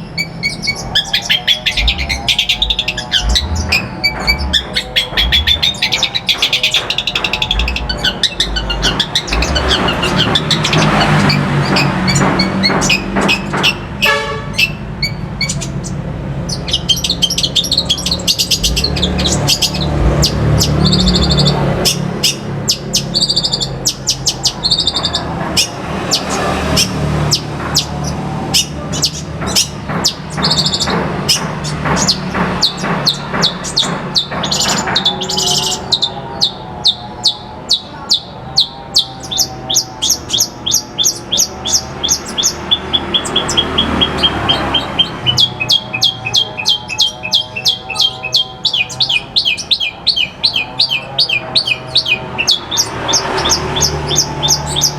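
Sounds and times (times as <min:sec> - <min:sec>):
harsh repeated bird notes: 0:00.0 - 0:54.9
shrike singing: 0:00.0 - 0:54.9.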